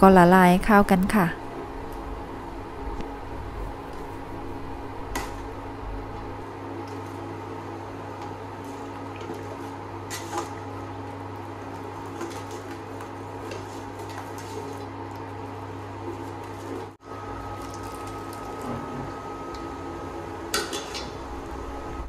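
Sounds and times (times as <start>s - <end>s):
induction cooktop humming: 0.0s - 22.0s.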